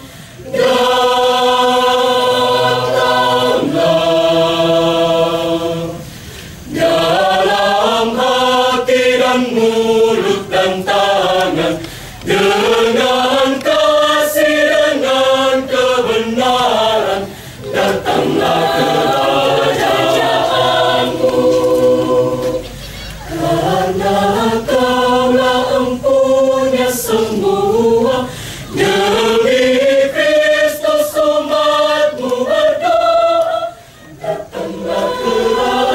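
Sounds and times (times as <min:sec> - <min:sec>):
choir singing a hymn: 0:00.0 - 0:35.9.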